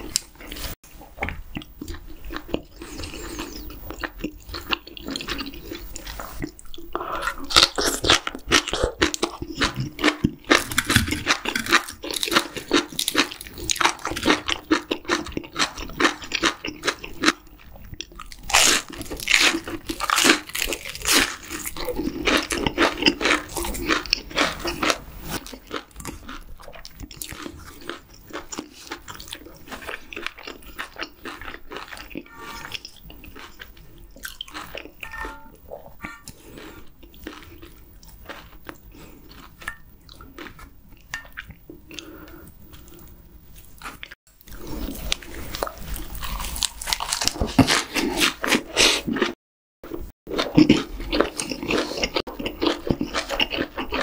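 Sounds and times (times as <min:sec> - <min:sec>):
chewing: 0:00.0 - 0:54.0
crunching fried shrimp: 0:01.5 - 0:35.2, 0:36.0 - 0:43.1, 0:43.7 - 0:54.0.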